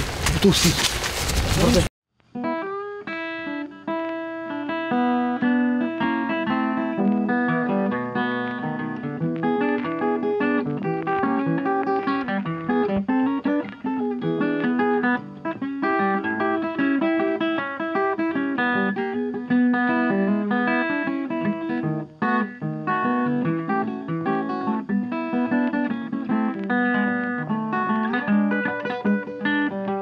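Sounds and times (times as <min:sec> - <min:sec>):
guitar music plucked notes: 0:02.3 - 0:30.0.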